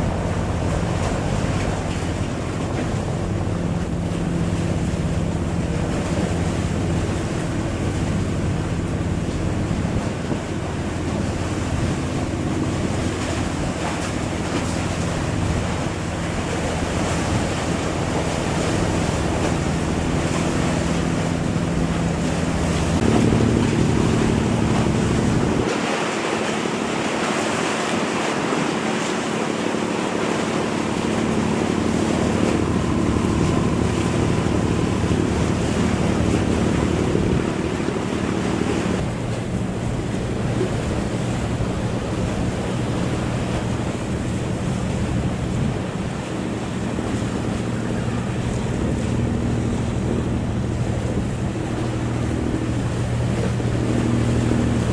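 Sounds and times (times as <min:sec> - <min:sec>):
boat engine humming: 0:00.0 - 0:54.9
rushing water: 0:00.0 - 0:54.9
wind noise on microphone: 0:00.0 - 0:54.9.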